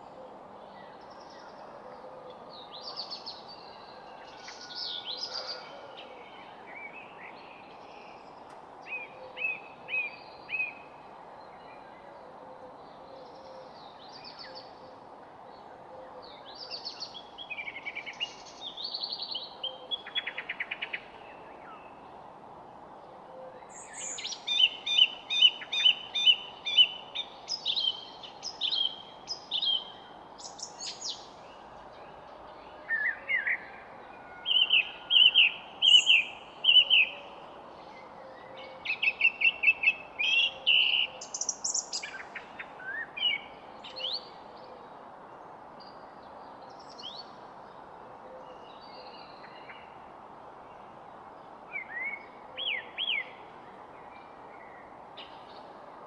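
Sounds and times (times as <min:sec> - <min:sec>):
songbirds singing: 0:00.0 - 0:55.8
steady background hiss: 0:00.0 - 0:56.0.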